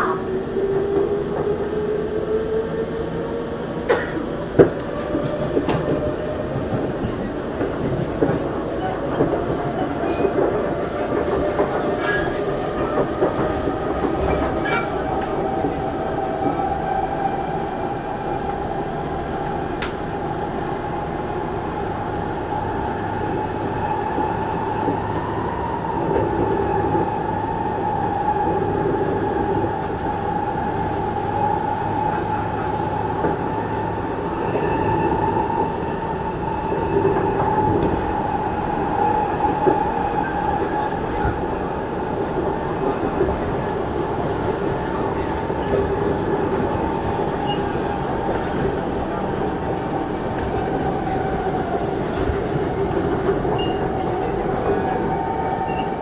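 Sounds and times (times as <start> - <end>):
high train whine: 0.0 - 56.0
train wheels rumbling on track: 0.0 - 56.0.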